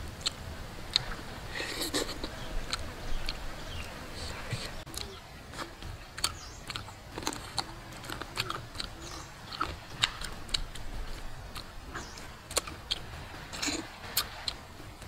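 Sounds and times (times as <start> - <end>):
person chewing and smacking lips: 0.1 - 15.0.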